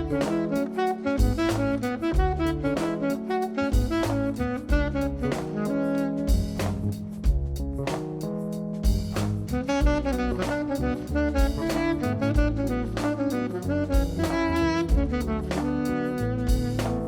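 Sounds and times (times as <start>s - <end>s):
walking bass line: 0.0s - 0.5s, 1.2s - 17.0s
drums: 0.0s - 17.0s
horn melody: 0.0s - 17.0s.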